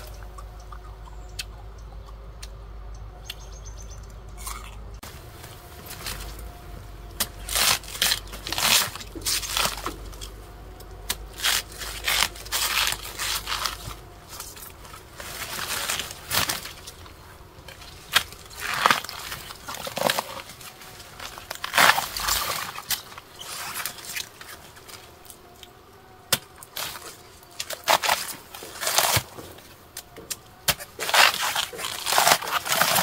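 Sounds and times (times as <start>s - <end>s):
fibrous stem tearing and crunching: 5.4s - 33.0s.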